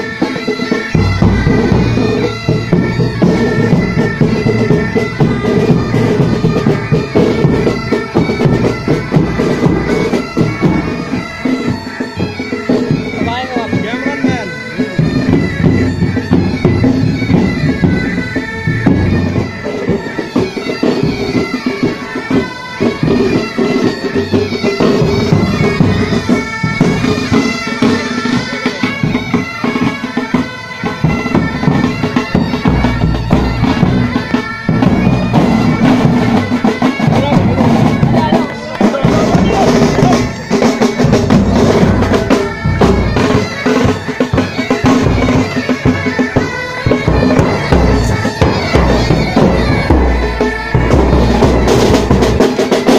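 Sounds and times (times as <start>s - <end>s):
bagpipes playing a tune: 0.0s - 52.9s
drums beating: 0.0s - 52.9s.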